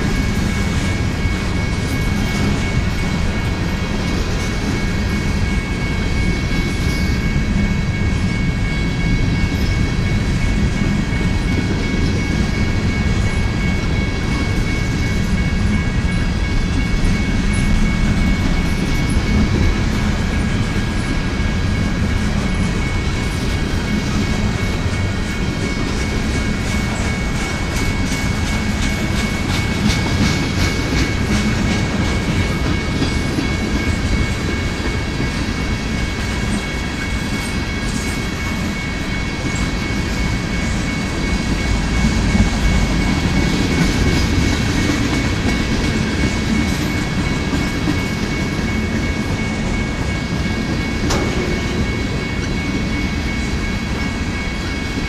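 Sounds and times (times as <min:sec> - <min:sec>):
freight train wheels rumbling: 0:00.0 - 0:55.0
high ringing tone: 0:00.0 - 0:55.0.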